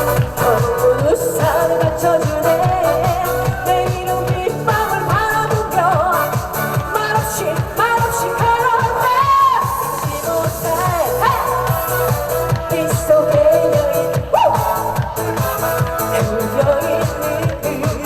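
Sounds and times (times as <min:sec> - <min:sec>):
backing track dance beat: 0:00.0 - 0:18.0
woman singing: 0:00.0 - 0:18.0.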